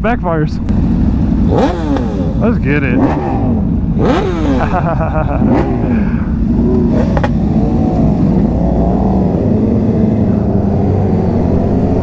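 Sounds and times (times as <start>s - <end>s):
motorcycle engines revving: 0.6s - 12.0s.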